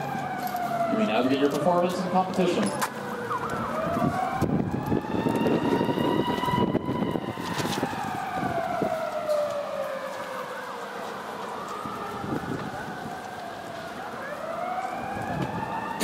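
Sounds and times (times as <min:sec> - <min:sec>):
emergency siren wailing: 0:00.0 - 0:16.0.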